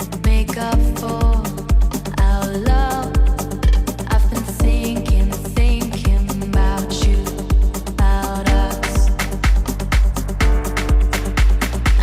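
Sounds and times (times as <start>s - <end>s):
background music with kick drum: 0.0s - 12.0s.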